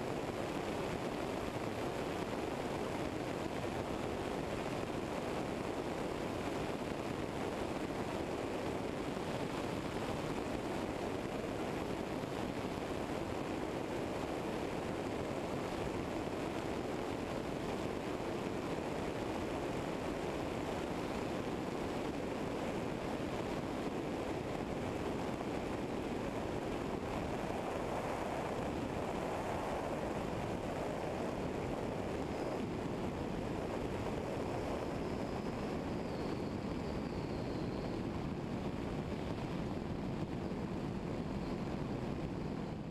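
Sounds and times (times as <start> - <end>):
aircraft engine idling drone: 0.0 - 42.9
wind noise on microphone: 0.0 - 42.9.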